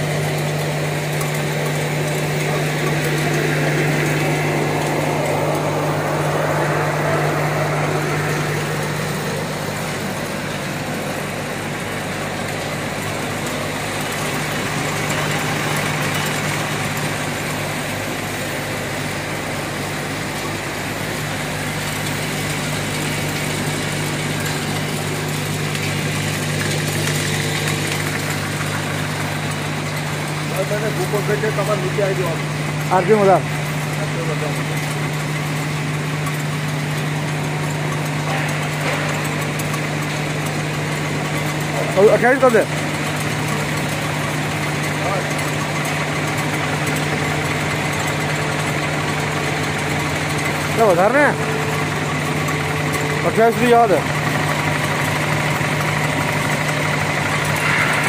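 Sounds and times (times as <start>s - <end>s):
machine motor hum: 0.0s - 58.0s
mechanical whirr and rattle: 0.0s - 58.0s.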